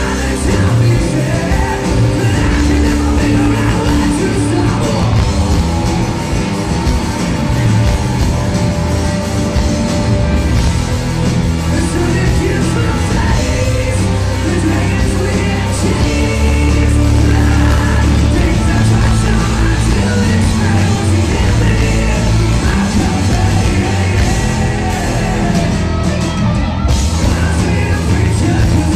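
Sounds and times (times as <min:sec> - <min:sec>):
bass guitar: 0:00.0 - 0:28.9
distorted electric guitars: 0:00.0 - 0:28.9
drum kit: 0:00.0 - 0:28.9.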